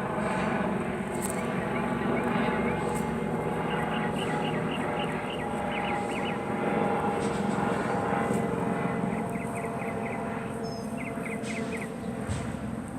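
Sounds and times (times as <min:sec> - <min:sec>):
helicopter drone: 0:00.0 - 0:12.9.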